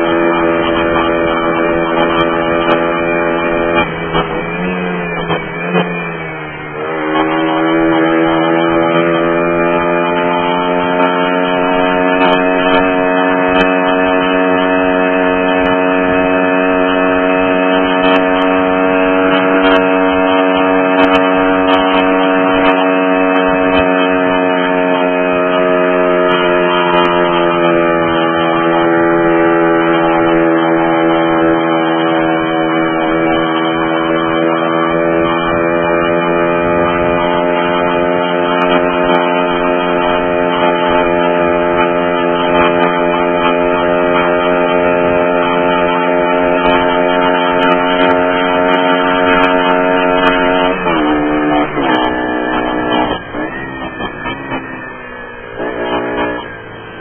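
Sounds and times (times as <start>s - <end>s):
single-cylinder engine running: 0.0s - 57.0s.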